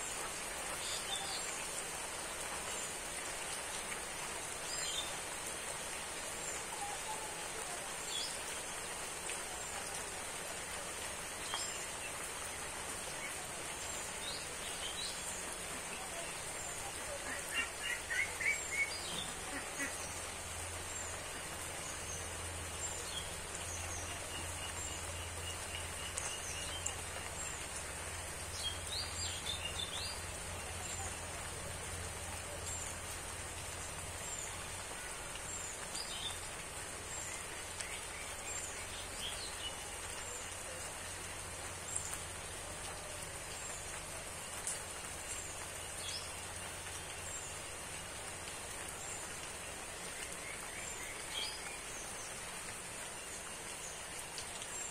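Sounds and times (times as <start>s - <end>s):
rain on vegetation: 0.0s - 54.9s
small birds chirping: 7.8s - 54.9s.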